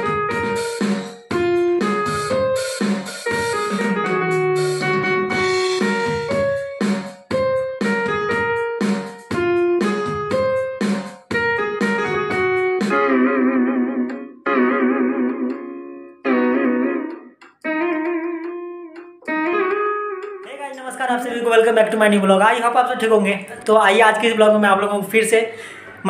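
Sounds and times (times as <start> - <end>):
pitch-bent held notes: 0.0 - 6.8, 9.3 - 25.1
keyboard piano melody: 0.0 - 25.4.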